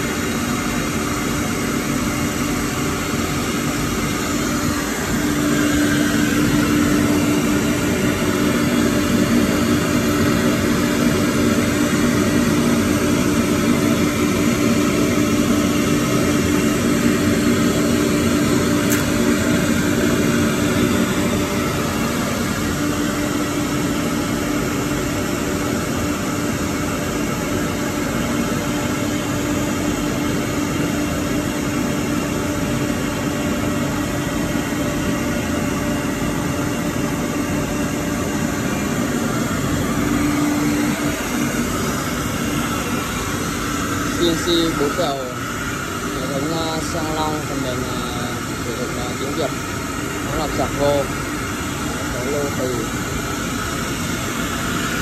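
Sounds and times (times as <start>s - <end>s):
cnc router mechanical drone: 0.0s - 55.0s.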